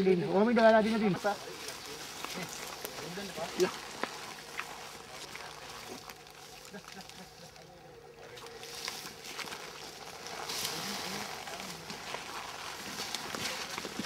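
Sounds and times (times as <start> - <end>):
distant men's voices: 0.0 - 14.0
footsteps in brush: 0.0 - 14.0
rustling undergrowth: 0.0 - 14.0.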